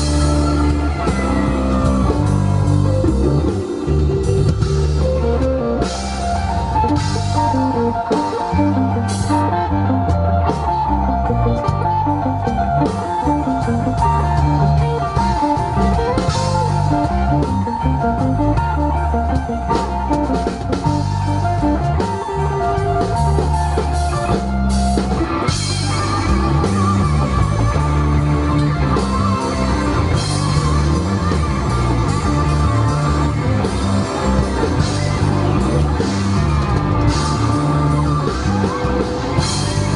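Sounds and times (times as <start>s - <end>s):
bass guitar: 0.0s - 39.9s
drum kit: 0.0s - 39.9s
electric guitar lines: 0.0s - 39.9s.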